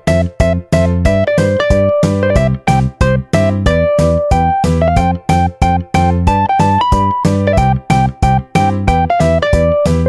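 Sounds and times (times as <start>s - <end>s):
keyboard melody over beat: 0.0s - 10.0s.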